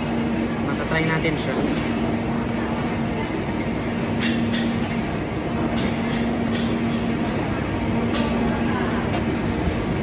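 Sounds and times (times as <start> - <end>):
busy food court din: 0.0 - 10.0.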